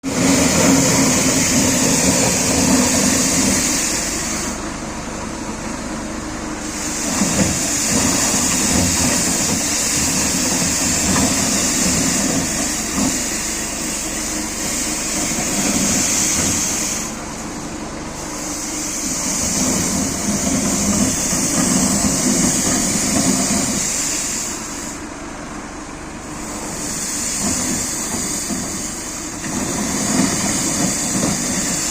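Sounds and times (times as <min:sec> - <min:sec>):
loud hiss of brushes and fan: 0:00.0 - 0:04.8, 0:05.6 - 0:25.3, 0:26.2 - 0:31.9
engine hum: 0:00.0 - 0:31.9.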